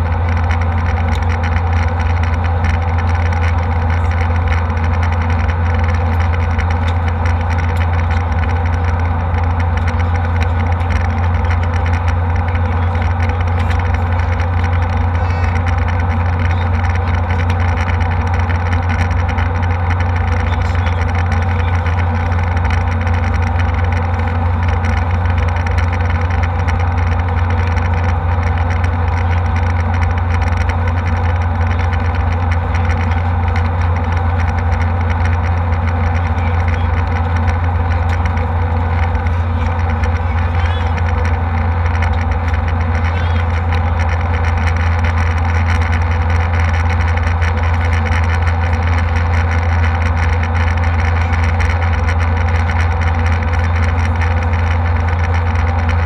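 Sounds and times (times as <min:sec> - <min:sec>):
jet airliner cabin drone: 0:00.0 - 0:56.0.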